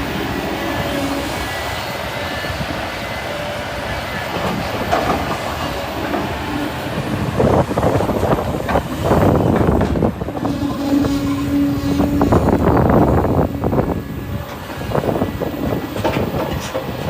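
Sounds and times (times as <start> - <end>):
diesel excavator running: 0.0 - 17.0.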